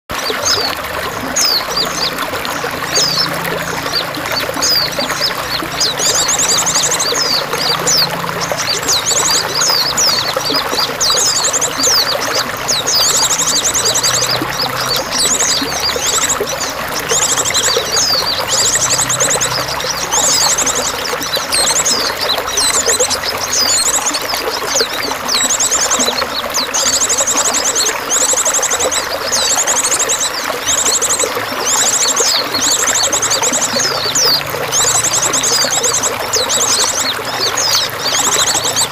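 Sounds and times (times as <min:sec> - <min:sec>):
trickling water: 0:00.0 - 0:38.9
songbirds chirping and trilling: 0:00.1 - 0:38.9.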